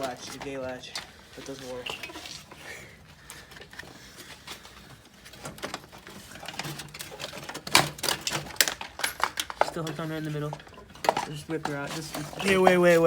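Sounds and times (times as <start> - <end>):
car body parts clicking and rattling: 0.0 - 13.0.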